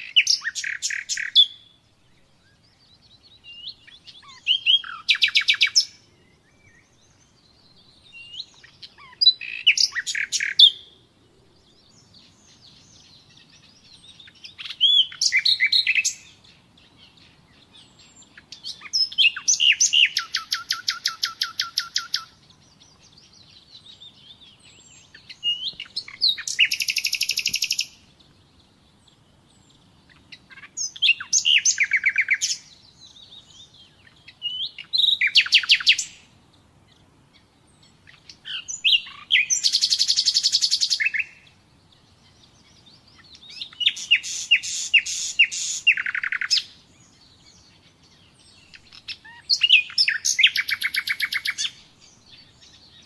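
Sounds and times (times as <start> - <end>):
nightingale singing: 0.0 - 53.0.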